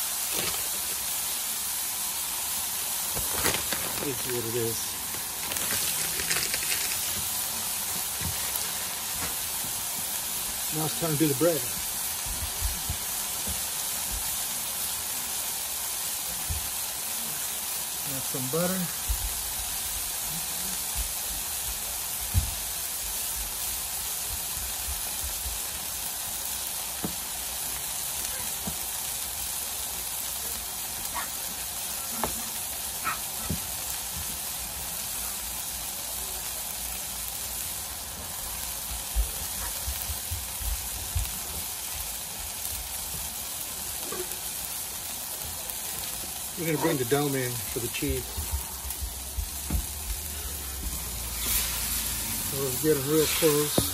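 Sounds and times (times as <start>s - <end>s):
patties sizzling on griddle: 0.0s - 53.9s.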